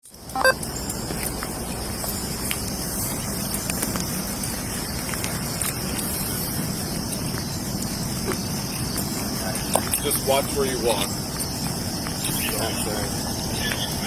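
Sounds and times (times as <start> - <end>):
steady hissing noise: 0.1 - 14.0.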